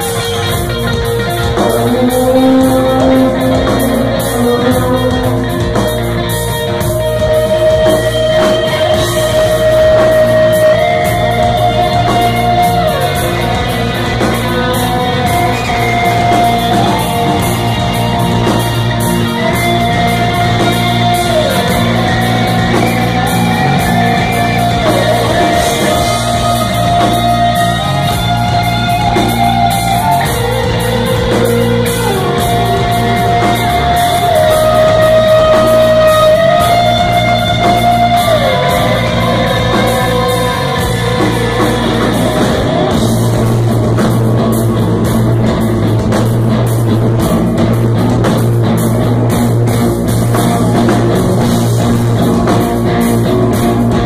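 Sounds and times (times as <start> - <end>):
electric guitars sliding melody notes: 0.0 - 54.0
live metal band playing: 0.0 - 54.0.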